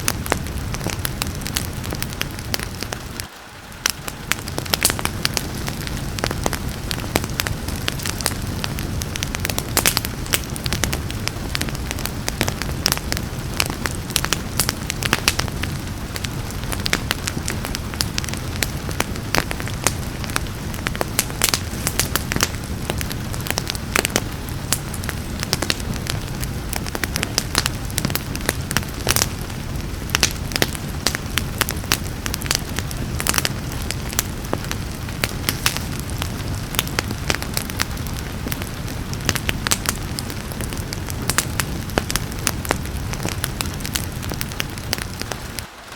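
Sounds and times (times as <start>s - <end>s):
rain: 0.0s - 45.9s
wood fire crackling: 0.0s - 45.9s.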